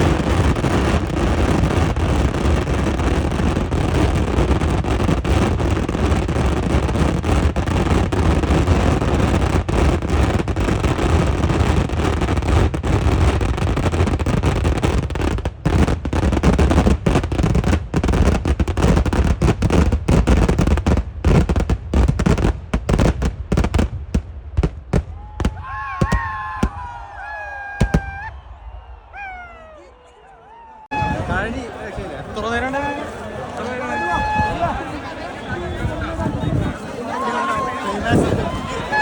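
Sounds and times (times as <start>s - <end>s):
fireworks explosions: 0.0s - 29.9s, 30.9s - 39.0s.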